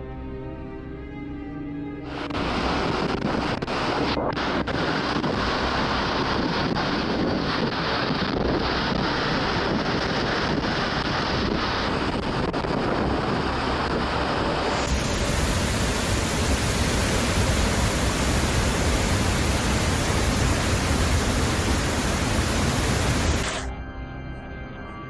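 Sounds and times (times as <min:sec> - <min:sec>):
storm rushing noise: 0:02.1 - 0:23.7.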